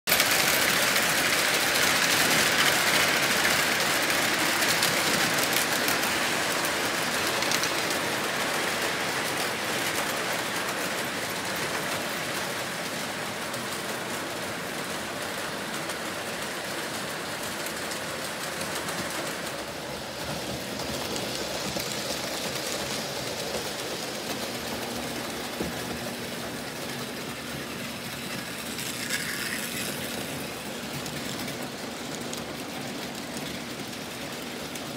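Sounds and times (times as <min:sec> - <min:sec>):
model trains clattering on track: 0:00.1 - 0:34.9.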